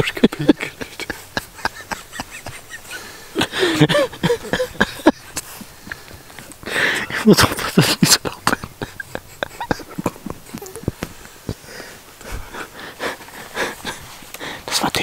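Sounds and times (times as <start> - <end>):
dry grass and twigs crackling: 0.0 - 14.6.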